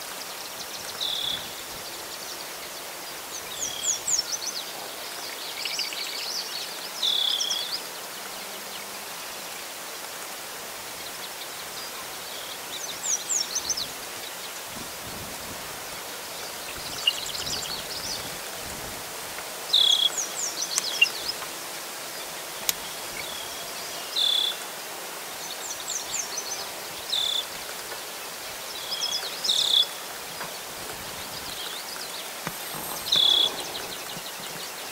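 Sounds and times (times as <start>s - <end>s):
outdoor hiss: 0.0s - 34.9s.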